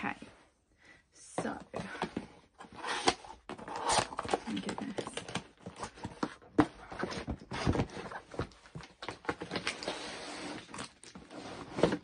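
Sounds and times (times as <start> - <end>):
gift box being opened: 1.8 - 12.0.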